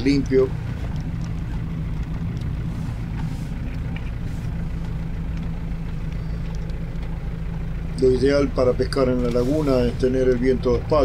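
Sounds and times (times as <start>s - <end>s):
car engine hum: 0.0s - 11.0s
tyre and road noise: 0.0s - 11.0s.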